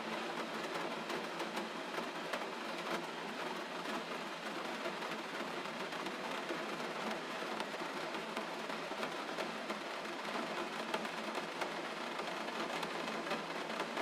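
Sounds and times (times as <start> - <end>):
gentle rain falling: 0.0 - 14.0.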